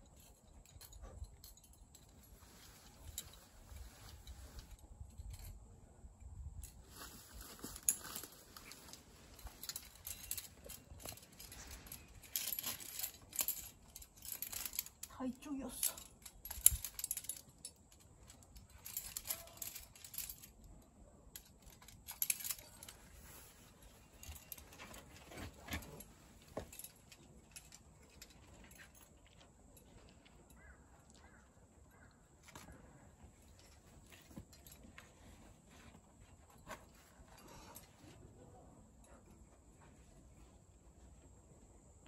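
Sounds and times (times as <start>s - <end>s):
metal climbing gear jingling: 0.0s - 40.6s.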